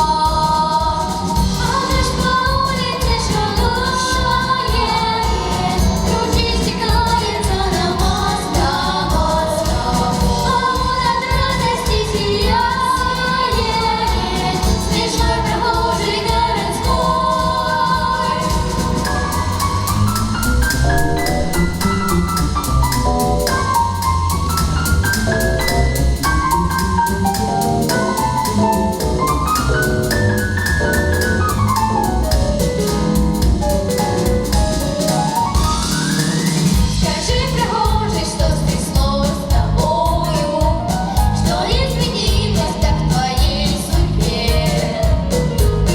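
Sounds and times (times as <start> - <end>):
voices singing together: 0.0 - 32.0, 35.3 - 45.3
pop backing track with drum beat: 0.0 - 45.9.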